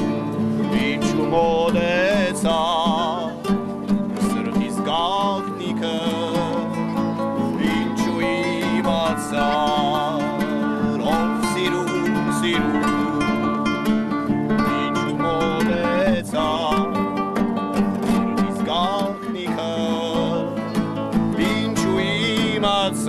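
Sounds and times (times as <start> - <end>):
acoustic guitars strummed and picked: 0.0 - 23.0
man singing: 0.0 - 23.0.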